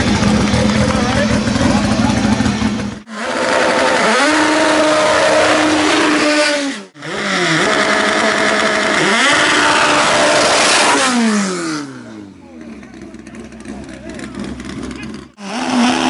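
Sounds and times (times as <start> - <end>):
car engines revving hard: 0.0 - 16.0.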